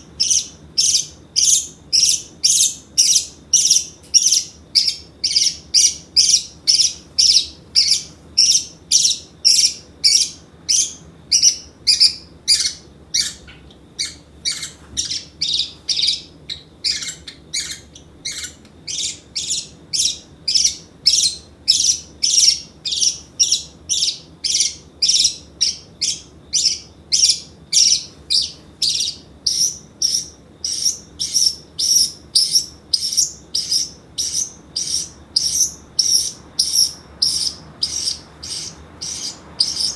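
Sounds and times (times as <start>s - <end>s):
parrotlet shrill calls: 0.2s - 39.9s.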